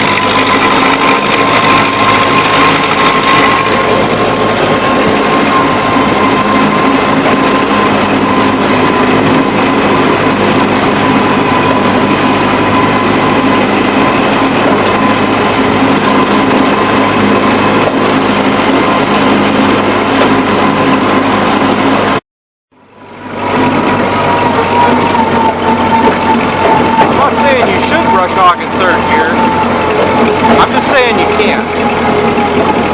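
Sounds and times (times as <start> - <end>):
high whine: 0.0 - 32.9
tractor engine running: 0.0 - 32.9.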